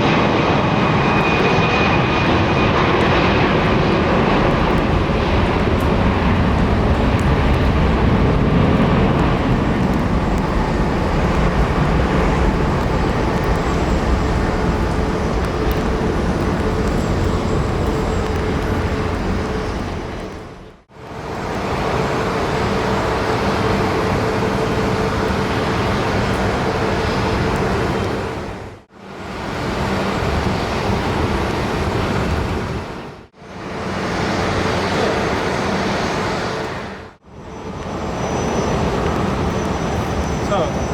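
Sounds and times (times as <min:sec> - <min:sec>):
jet engines rushing: 0:00.0 - 0:40.9.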